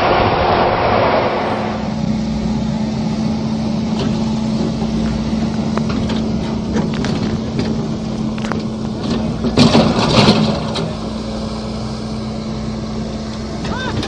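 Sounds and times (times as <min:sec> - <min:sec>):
heavy machine engine humming: 0:00.0 - 0:14.0.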